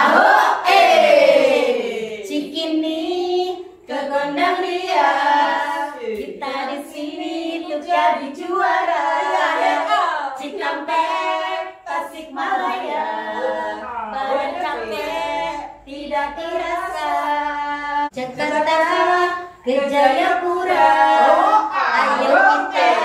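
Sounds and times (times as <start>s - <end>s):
women singing in unison: 0.0s - 23.0s.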